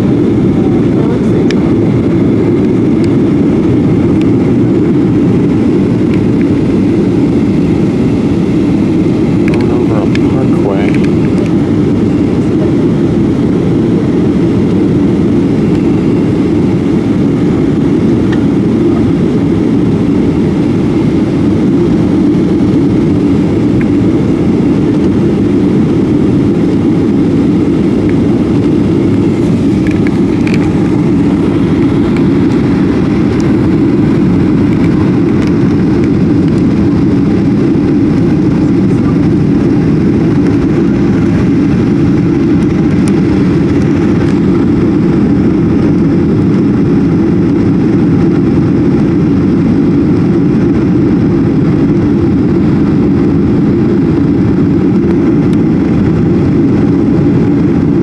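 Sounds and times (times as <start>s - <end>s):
jet cabin deep rumble: 0.0s - 58.0s.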